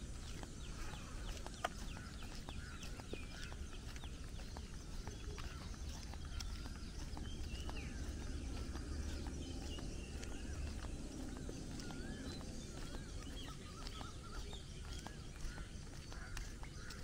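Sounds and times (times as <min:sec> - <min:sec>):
low rumble: 0:00.0 - 0:15.9
birds chirping and whistling: 0:00.0 - 0:17.0
footsteps on asphalt: 0:00.0 - 0:17.0.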